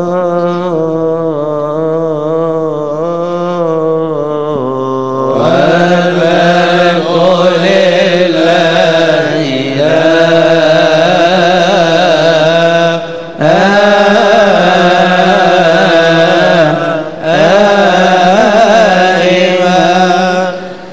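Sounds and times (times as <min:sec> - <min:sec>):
man chanting a hymn: 0:00.0 - 0:20.9.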